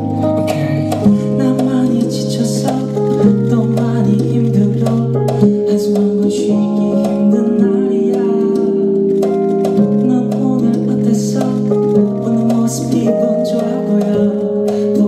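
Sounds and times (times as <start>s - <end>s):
instrumental accompaniment: 0.0s - 15.0s
man singing pop ballad: 0.2s - 9.2s, 9.8s - 15.0s.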